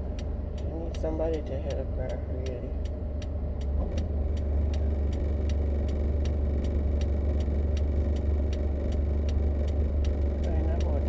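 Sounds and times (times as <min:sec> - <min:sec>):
car engine rumble and road noise: 0:00.0 - 0:11.0
turn signal clicking: 0:00.0 - 0:11.0.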